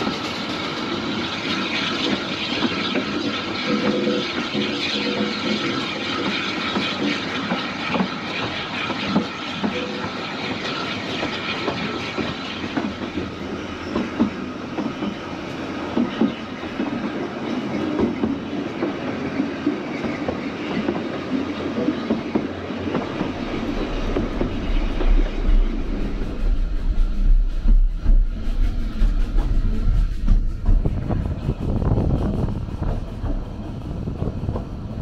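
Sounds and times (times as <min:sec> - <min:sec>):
railway carriage rumble and rattle: 0:00.0 - 0:35.0.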